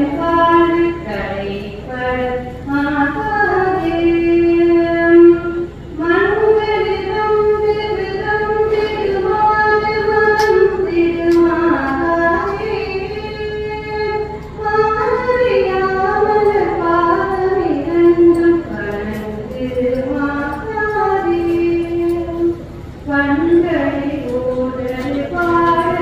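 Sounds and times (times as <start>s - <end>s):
woman singing slow melody: 0.0s - 26.0s.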